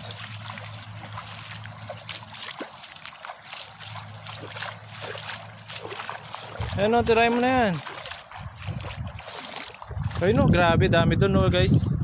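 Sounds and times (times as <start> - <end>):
feet wading through shallow water: 0.0 - 12.0.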